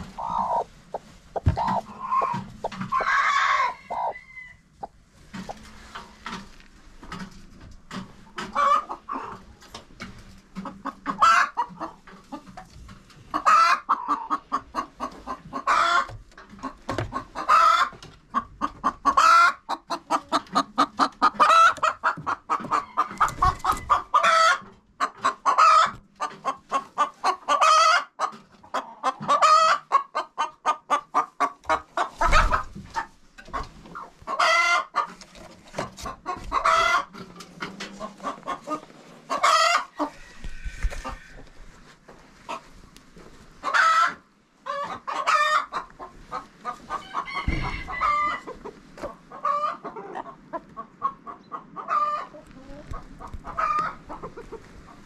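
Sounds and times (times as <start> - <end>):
chickens clucking and squawking: 0.0 - 55.0.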